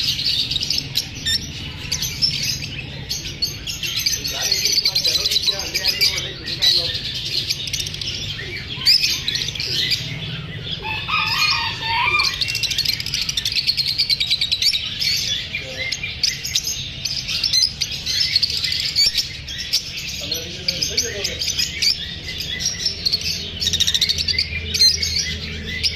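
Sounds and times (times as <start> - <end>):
birds chirping and chattering: 0.0 - 25.9.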